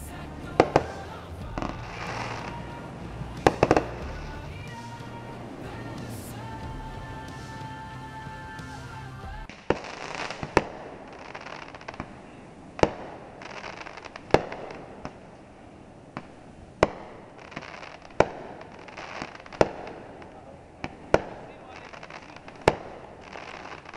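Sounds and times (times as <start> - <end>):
fireworks bangs: 0.0 - 23.9
fireworks crackling: 0.0 - 23.9.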